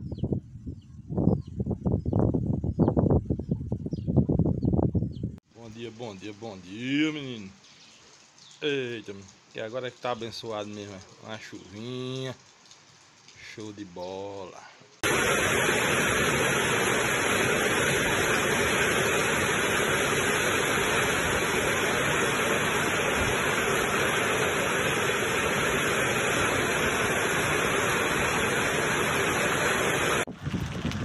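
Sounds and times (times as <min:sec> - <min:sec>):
heavy rain pouring: 0:05.8 - 0:31.0.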